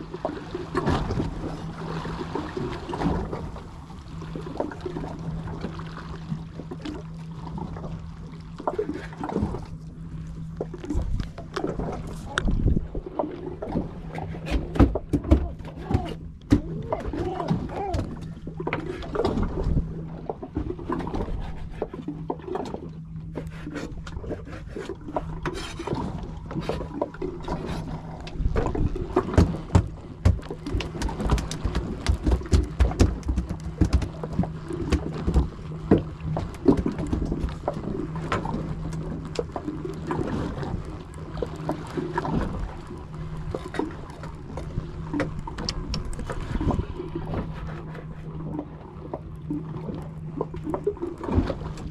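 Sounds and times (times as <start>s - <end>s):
boat engine humming: 0.0s - 51.9s
water splashing: 0.0s - 51.9s.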